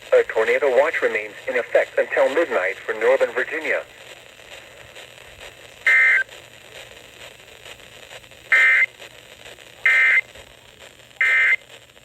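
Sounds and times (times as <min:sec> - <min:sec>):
radio broadcast: 0:00.0 - 0:12.0.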